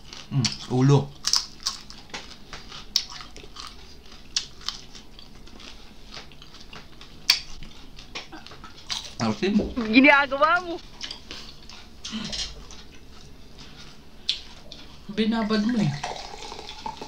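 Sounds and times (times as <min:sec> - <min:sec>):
people chewing crunchy food: 0:00.0 - 0:15.2, 0:15.9 - 0:17.0.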